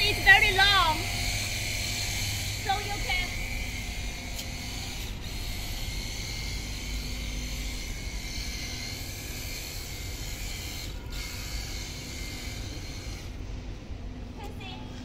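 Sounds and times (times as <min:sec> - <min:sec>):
electric pump running: 0:00.0 - 0:14.4.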